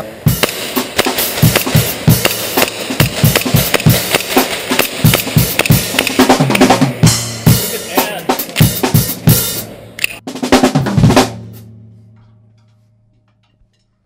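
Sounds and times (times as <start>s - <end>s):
drum kit beat: 0.0s - 11.9s
ringing low drum tone: 0.2s - 13.9s.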